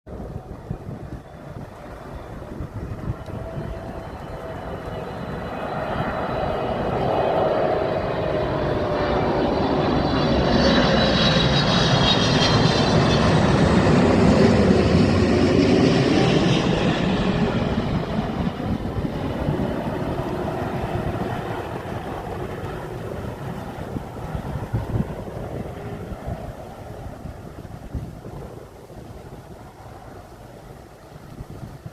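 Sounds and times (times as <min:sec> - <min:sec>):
jet airliner flying past: 0:00.1 - 0:31.9.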